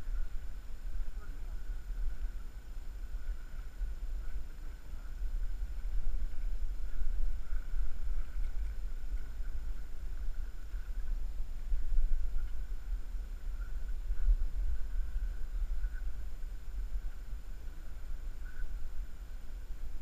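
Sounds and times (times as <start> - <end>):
faint high whine: 0.0 - 20.0
wind buffeting microphone: 0.0 - 20.0.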